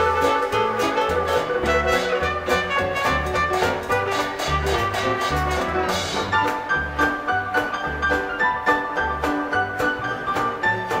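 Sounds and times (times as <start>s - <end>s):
dance orchestra playing jazz: 0.0s - 11.0s.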